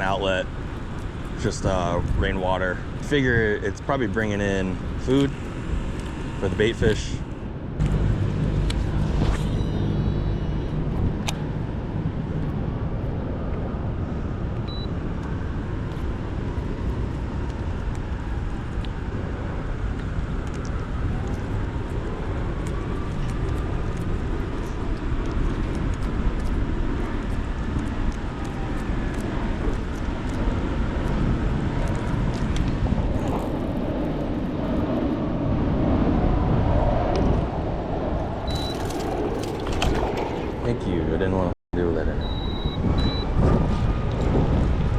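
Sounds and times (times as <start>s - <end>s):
city traffic rumble: 0.0s - 44.9s
passing drone: 4.6s - 41.2s.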